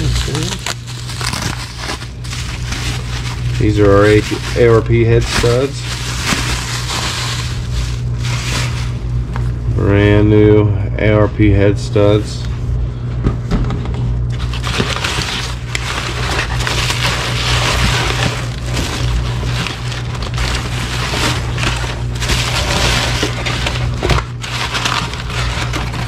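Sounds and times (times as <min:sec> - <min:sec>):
paper and bubble wrap crinkling: 0:00.0 - 0:09.6, 0:14.3 - 0:26.0
steady low hum: 0:00.0 - 0:26.0.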